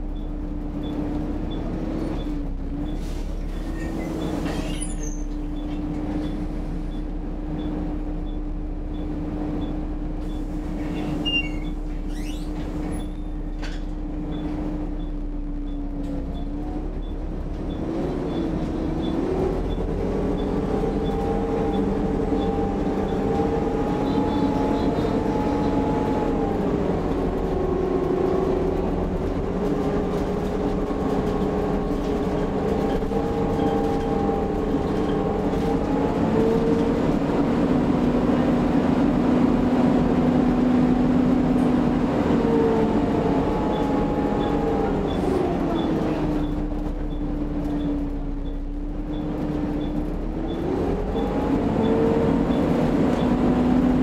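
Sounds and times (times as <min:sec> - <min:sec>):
bus engine and gearbox whine: 0:00.0 - 0:54.0
road rumble: 0:00.0 - 0:54.0.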